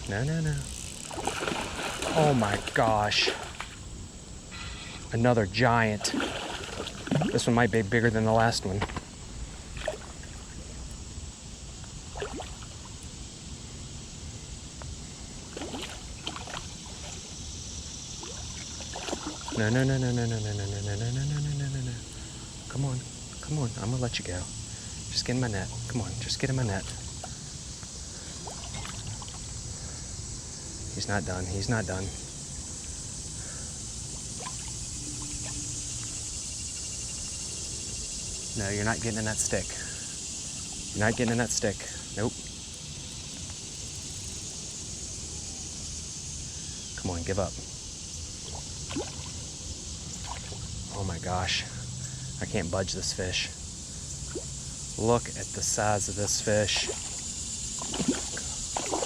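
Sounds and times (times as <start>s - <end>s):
creek water running: 0.0s - 4.3s, 5.0s - 59.0s.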